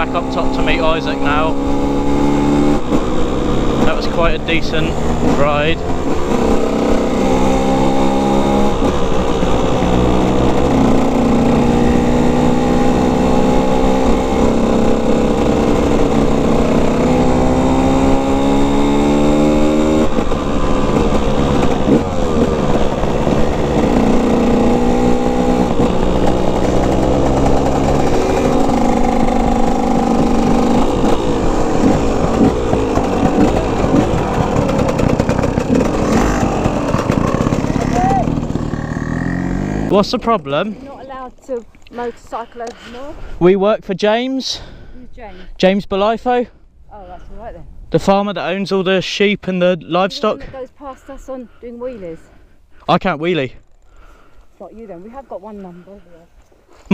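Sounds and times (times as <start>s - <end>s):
dirt bike engine revving: 0.0s - 43.4s, 49.6s - 56.0s.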